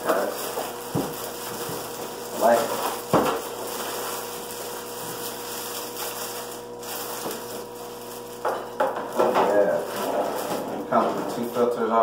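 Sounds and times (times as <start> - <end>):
plastic wrapping crinkling: 0.0 - 11.5.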